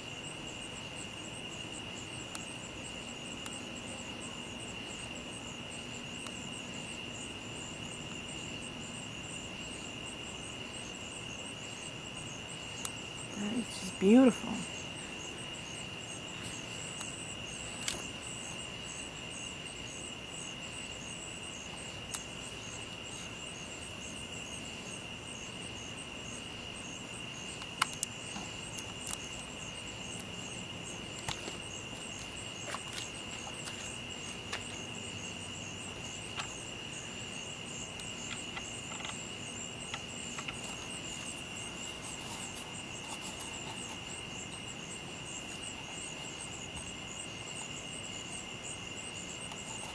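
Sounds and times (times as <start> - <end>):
crickets trilling: 0.0 - 49.9.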